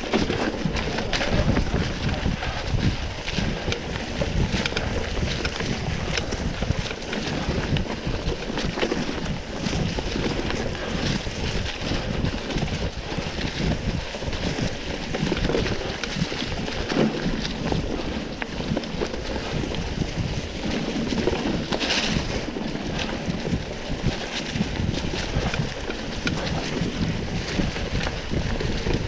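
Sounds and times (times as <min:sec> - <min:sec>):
rumbling and rattling over rough trail: 0:00.0 - 0:29.0
wind buffeting microphone: 0:00.0 - 0:29.0.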